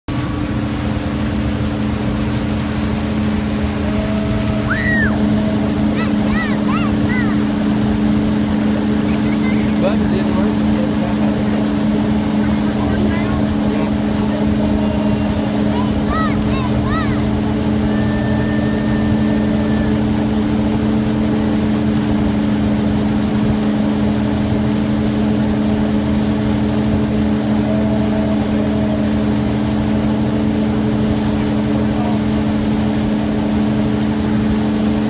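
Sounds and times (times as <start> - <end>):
boat wake churning: 0.1 - 35.0
motorboat engine humming: 0.1 - 35.0.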